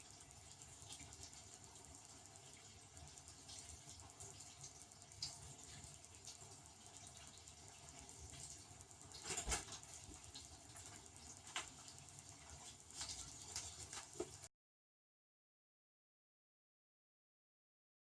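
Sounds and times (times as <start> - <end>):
water pattering in dishwasher: 0.0 - 14.5.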